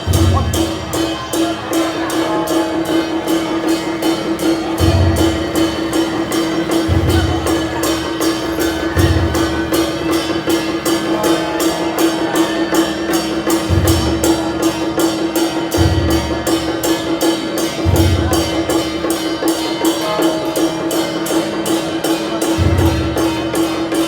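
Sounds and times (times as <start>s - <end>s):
deep drum strokes: 0.0s - 19.4s
fast sharp percussion strokes: 0.0s - 24.0s.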